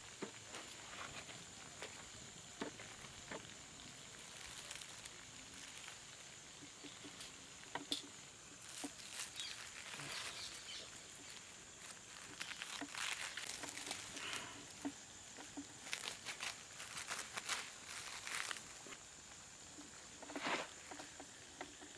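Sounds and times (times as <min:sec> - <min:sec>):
dry leaves rustling and crackling: 0:00.0 - 0:21.9.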